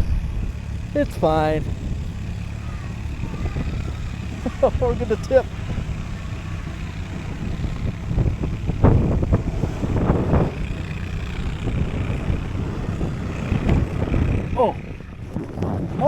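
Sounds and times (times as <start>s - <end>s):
vehicle engine low rumble: 0.0s - 16.0s.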